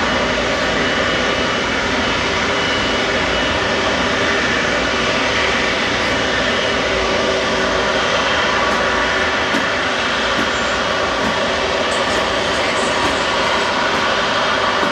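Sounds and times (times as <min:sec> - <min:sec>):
jet engines running: 0:00.0 - 0:14.9.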